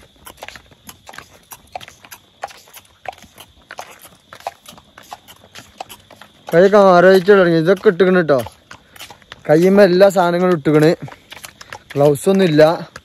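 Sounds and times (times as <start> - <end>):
horse hooves clip-clopping on road: 0.0 - 13.0.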